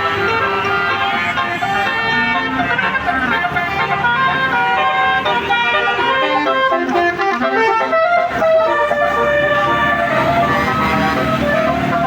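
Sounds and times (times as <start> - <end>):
musical air horn playing tune: 0.0 - 12.0.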